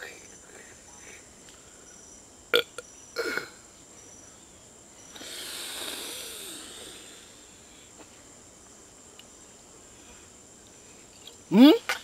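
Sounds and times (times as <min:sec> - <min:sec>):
long breathy hiss: 0:00.0 - 0:02.4, 0:03.2 - 0:11.2.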